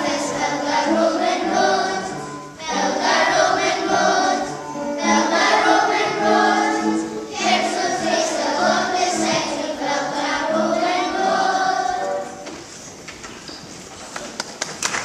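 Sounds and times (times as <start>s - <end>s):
children singing together: 0.0s - 12.5s.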